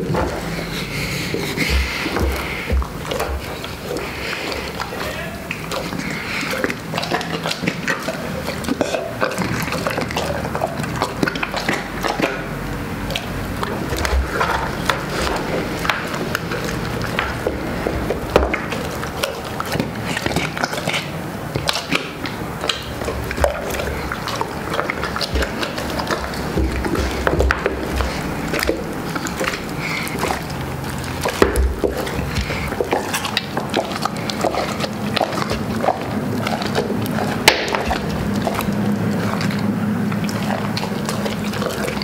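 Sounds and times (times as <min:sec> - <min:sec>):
dog chewing and crunching bones: 0:00.0 - 0:42.0
wet smacking of jaws: 0:00.0 - 0:42.0.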